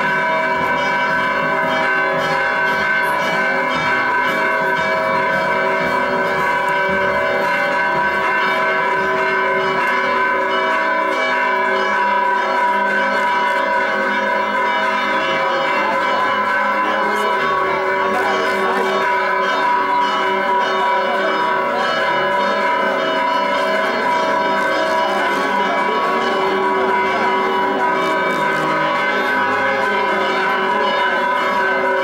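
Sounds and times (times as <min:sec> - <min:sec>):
church bells pealing: 0:00.0 - 0:32.0.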